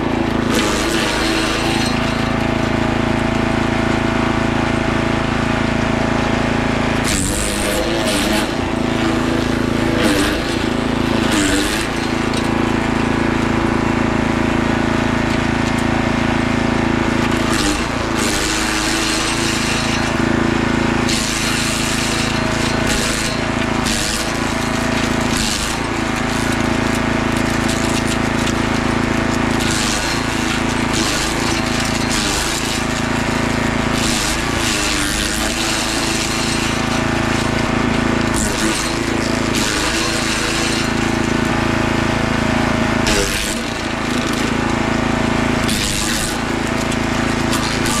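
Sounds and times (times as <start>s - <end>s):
wood chipper engine running: 0.0s - 48.0s
wood cracking in chipper: 0.0s - 48.0s.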